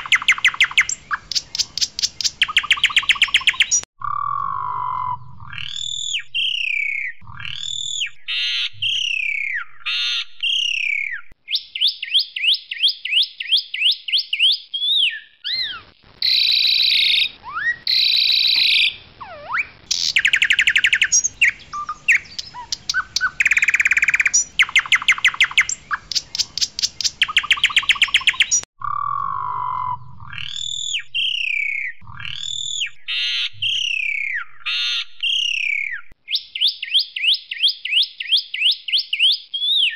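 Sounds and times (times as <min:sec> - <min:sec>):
bird harsh squawks and trills: 0:00.0 - 0:39.9
starling whistling song: 0:00.0 - 0:39.9.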